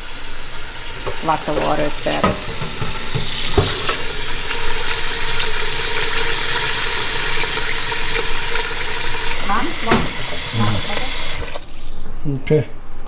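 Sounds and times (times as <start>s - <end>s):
tap water running into pot: 0.0s - 12.4s.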